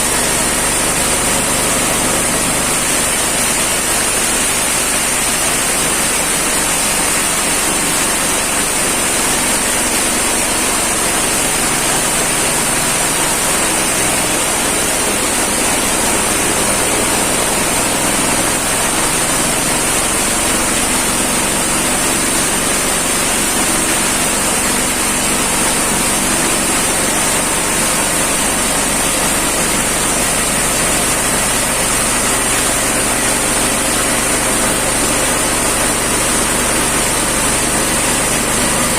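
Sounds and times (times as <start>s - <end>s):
feed chopper machine running: 0.0s - 38.9s.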